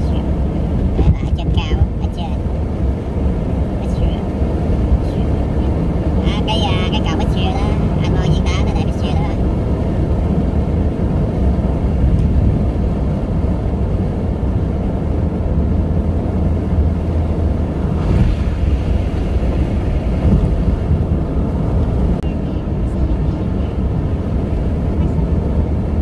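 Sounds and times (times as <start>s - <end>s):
car road rumble: 0.0s - 26.0s.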